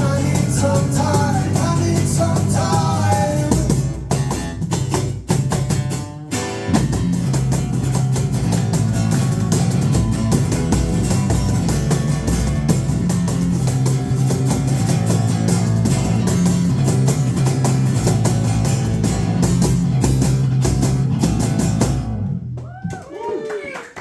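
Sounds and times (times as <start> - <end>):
electric guitars: 0.0 - 22.5
drum kit: 0.0 - 22.8
bass guitar: 0.0 - 23.0.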